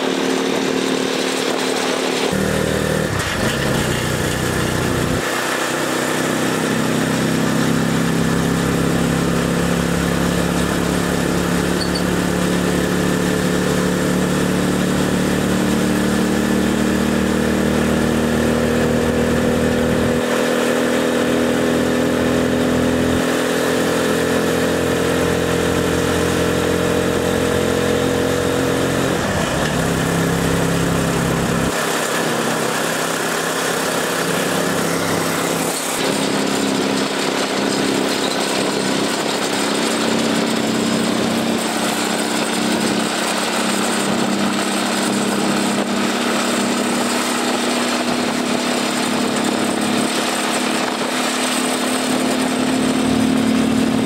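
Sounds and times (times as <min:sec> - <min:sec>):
cargo trike engine running: 0:00.0 - 0:54.0.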